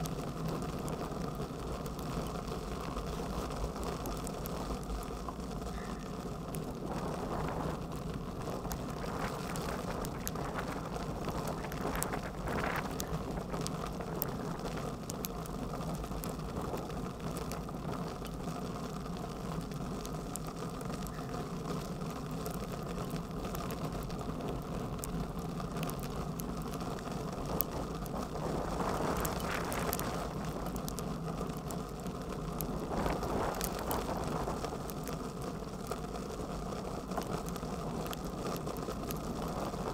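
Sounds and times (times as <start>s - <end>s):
hailstones ticking on bike: 0.0s - 39.9s
low rumble of bicycle riding: 0.0s - 39.9s.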